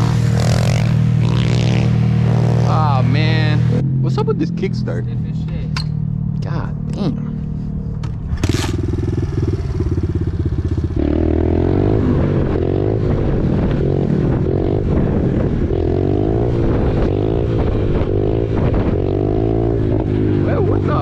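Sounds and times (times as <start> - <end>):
dirt bike engine revving: 0.0 - 5.4, 8.3 - 21.0.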